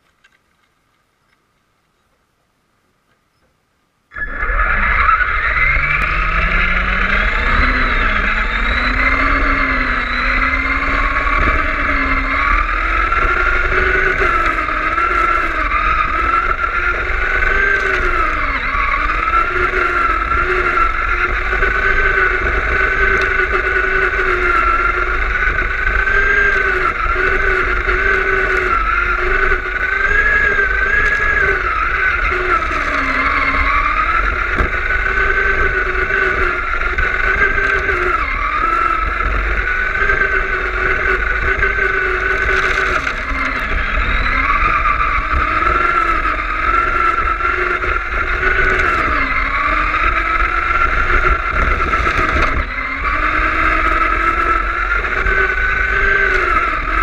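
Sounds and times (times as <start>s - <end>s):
electric motor whining: 4.1s - 57.0s
tyres rumbling on asphalt: 4.1s - 57.0s.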